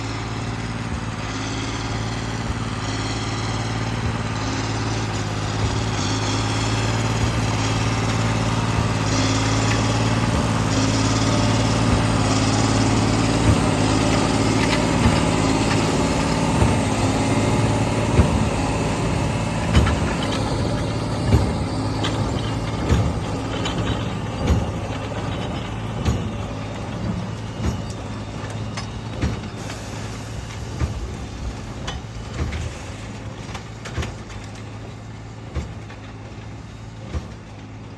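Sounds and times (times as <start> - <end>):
tractor engine hum: 0.0 - 37.9
regular baler knocks: 3.9 - 37.9.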